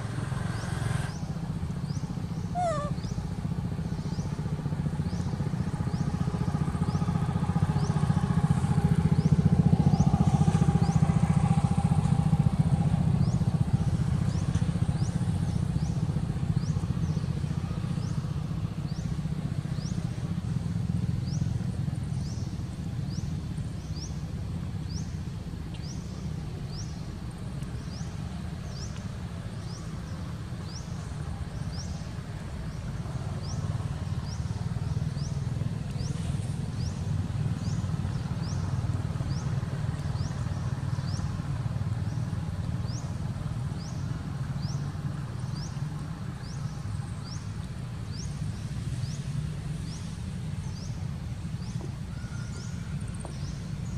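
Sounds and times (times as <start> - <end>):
motor vehicle engine rumbling past: 0.0 - 53.9.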